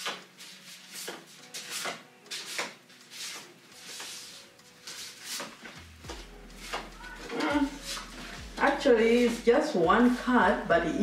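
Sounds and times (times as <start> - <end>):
paper cards rustling: 0.0 - 9.5.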